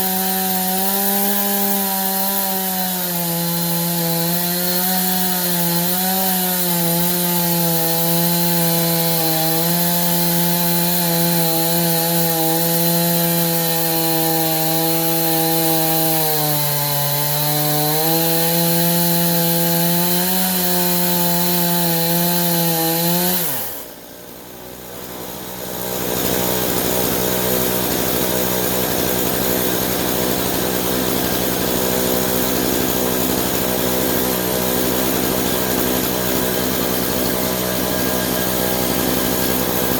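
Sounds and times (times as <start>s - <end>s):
chainsaw ripping log: 0.0s - 39.9s.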